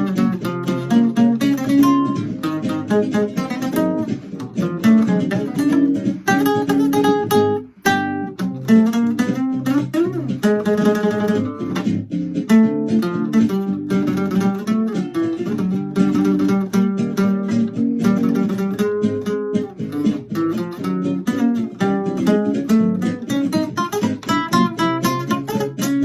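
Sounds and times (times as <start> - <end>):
acoustic guitar plucking and strumming: 0.0 - 26.0
looped guitar parts: 0.0 - 26.0.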